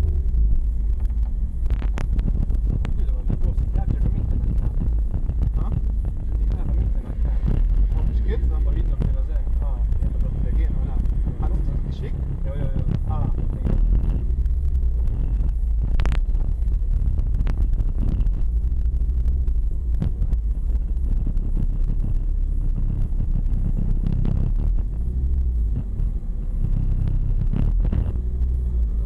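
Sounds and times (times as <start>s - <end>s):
car engine rumbling at low revs: 0.0s - 29.0s.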